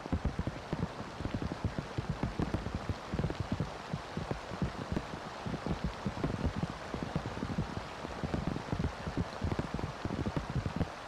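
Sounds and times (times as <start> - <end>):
heavy rain hissing: 0.0 - 11.0
raindrops tapping: 0.0 - 11.0.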